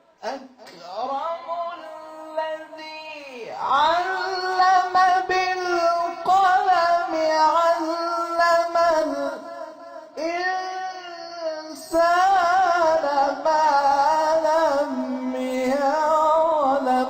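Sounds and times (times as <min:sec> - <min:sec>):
man reciting melodic chant: 0:00.0 - 0:17.0.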